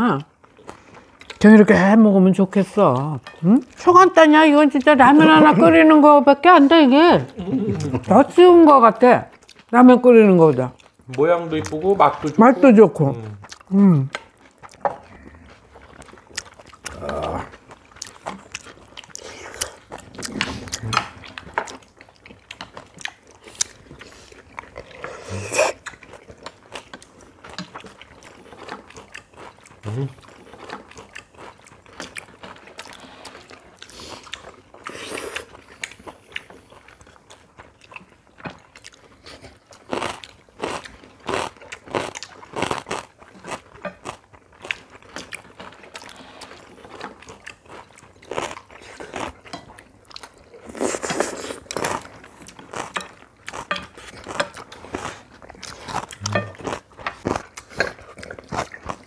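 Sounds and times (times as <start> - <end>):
people chewing: 0.0 - 59.0.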